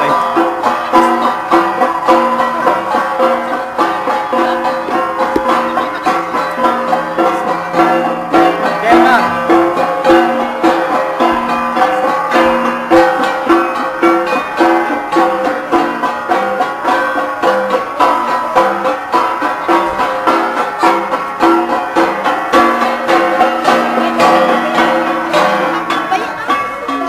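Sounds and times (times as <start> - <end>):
bronze gongs struck in rhythm: 0.0 - 27.0.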